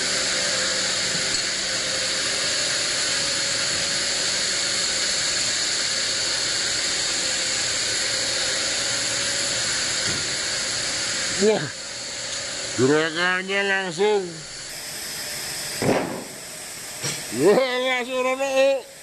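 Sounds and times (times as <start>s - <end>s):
band sawmill high-pitched noise: 0.0s - 19.0s.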